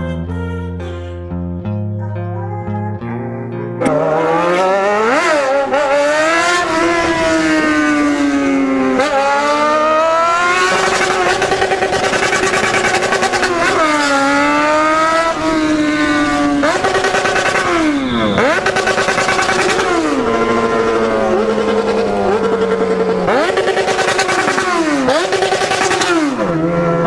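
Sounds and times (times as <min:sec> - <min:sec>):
loud motorcycle engine revving: 0:03.8 - 0:27.0.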